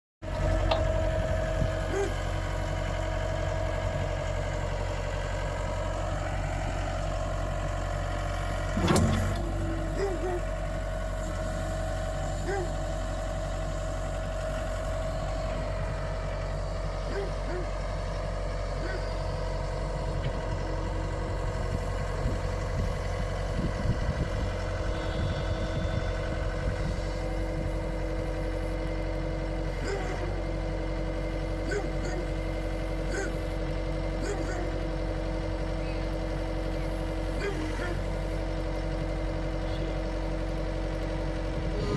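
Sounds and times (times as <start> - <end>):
diesel engine idling: 0.2 - 41.9.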